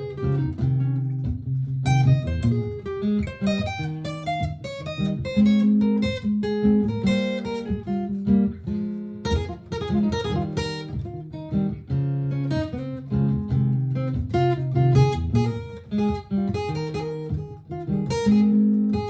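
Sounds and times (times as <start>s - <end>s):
looped low guitar notes: 0.0s - 19.0s
picked acoustic guitar notes: 0.0s - 19.0s.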